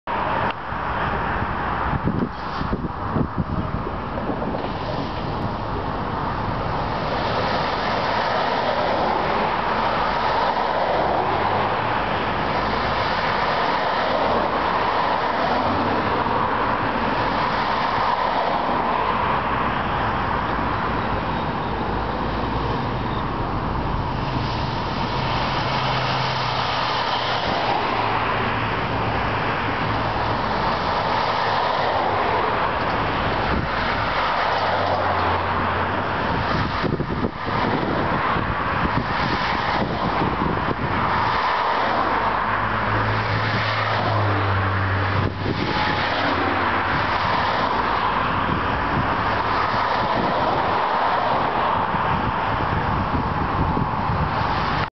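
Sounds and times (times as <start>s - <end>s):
cars and trucks passing: 0.0s - 54.9s.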